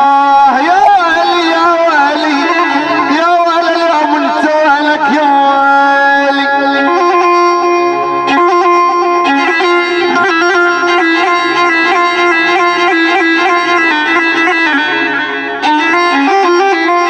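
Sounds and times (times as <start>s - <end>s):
electronic keyboard melody: 0.0s - 17.0s.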